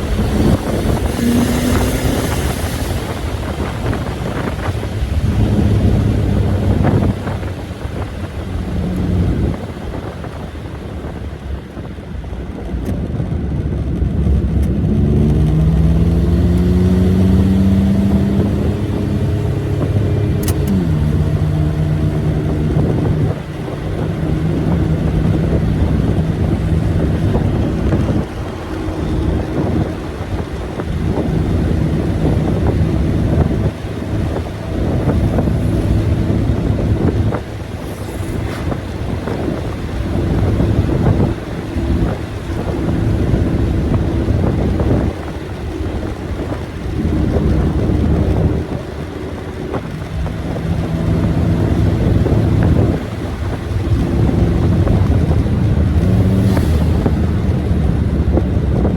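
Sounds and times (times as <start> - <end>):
car engine accelerating: 0.0 - 58.9
wind noise: 0.0 - 58.9.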